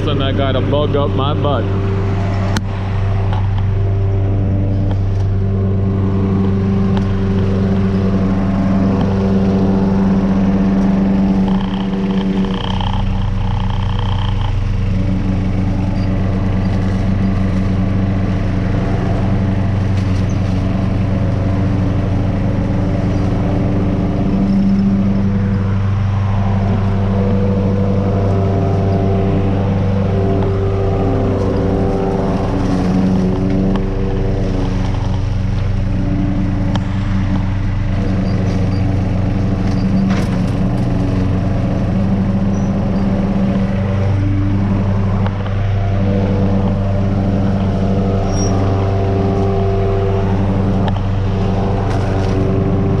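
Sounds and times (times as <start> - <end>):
lawnmower mowing: 0.0 - 53.0
tractor engine running: 0.0 - 53.0.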